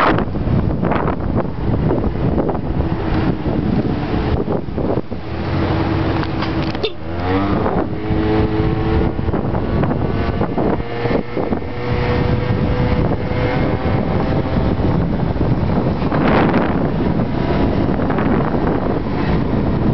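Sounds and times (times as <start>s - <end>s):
wind rushing over microphone: 0.0s - 19.9s
motor scooter engine running: 1.2s - 19.9s.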